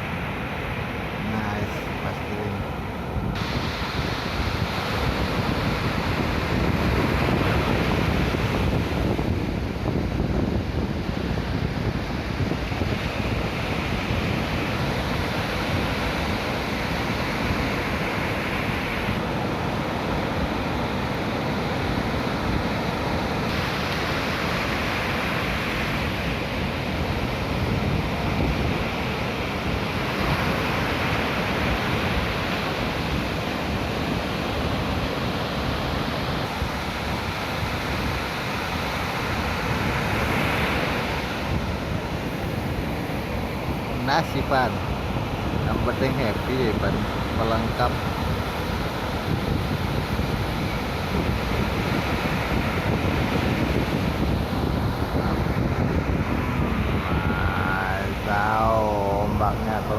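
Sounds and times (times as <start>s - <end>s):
ocean surf breaking: 0.0s - 59.9s
wind on microphone: 0.0s - 59.9s.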